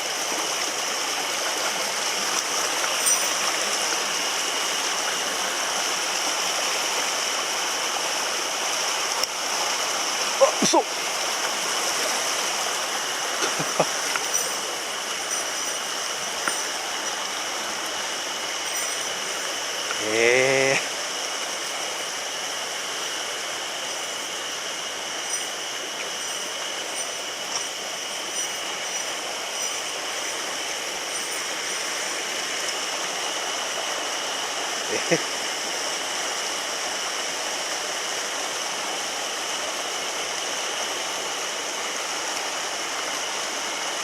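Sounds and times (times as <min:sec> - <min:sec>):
mountain stream rushing: 0:00.0 - 0:44.0.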